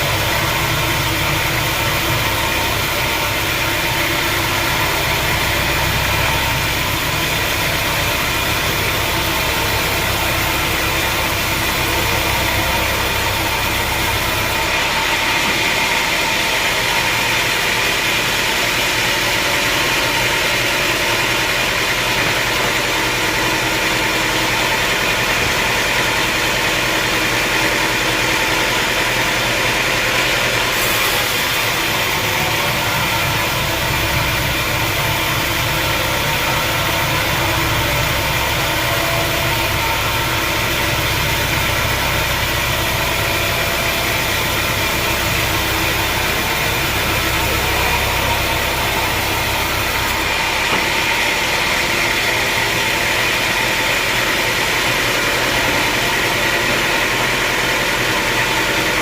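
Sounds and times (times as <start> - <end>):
sawmill machinery droning: 0.0 - 59.0.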